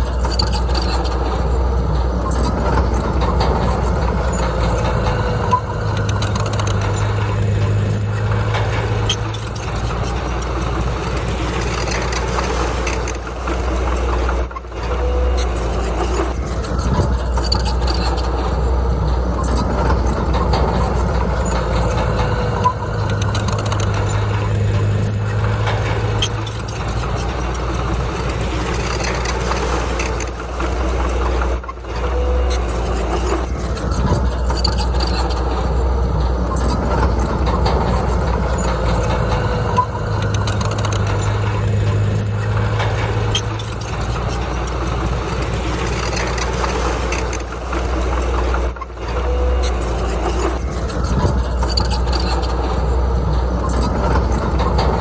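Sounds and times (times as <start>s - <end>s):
diesel machine engine rumbling: 0.0s - 55.0s.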